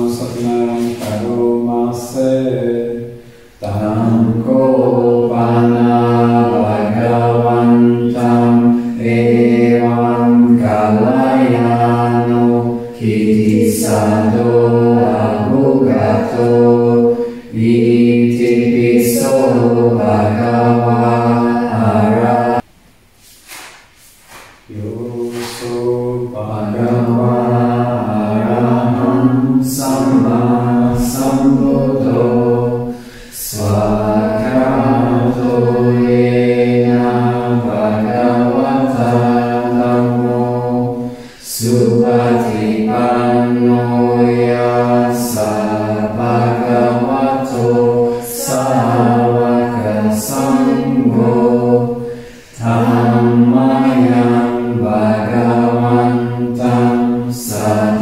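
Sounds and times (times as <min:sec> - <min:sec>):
voices chanting: 0:00.0 - 0:22.7, 0:24.3 - 0:58.0.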